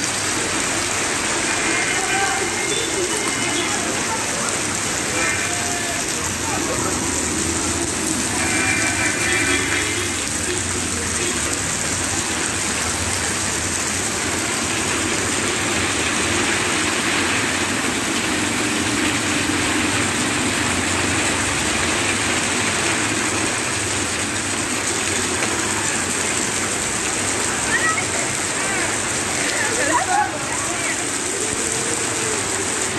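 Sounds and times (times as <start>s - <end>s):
floodwater rushing: 0.0s - 32.9s.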